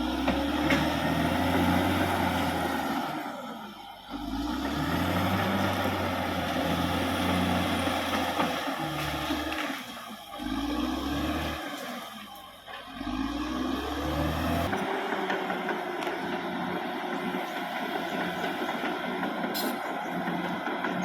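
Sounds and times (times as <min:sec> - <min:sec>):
bulldozer diesel engine working: 0:00.0 - 0:21.0.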